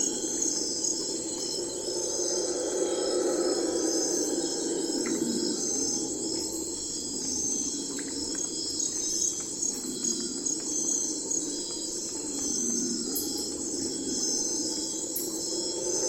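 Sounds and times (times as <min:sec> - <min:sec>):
crickets and insects chirping: 0:00.0 - 0:16.0.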